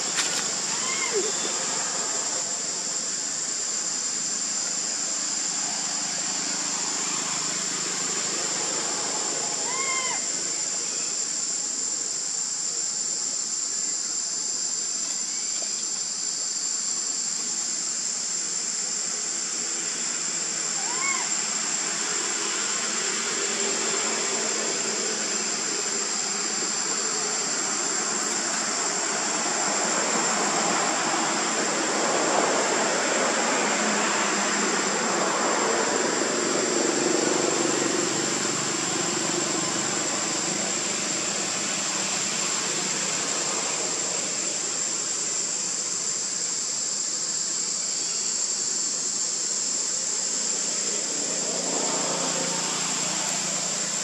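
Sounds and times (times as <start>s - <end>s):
broad rushing hiss: 0.0s - 54.0s
high-pitched insect drone: 0.0s - 54.0s.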